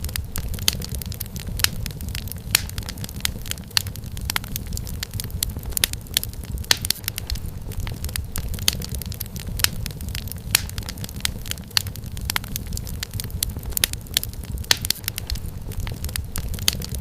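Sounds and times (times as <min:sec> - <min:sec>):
firewood popping and snapping: 0:00.0 - 0:17.0
low rumble of flame: 0:00.0 - 0:17.0.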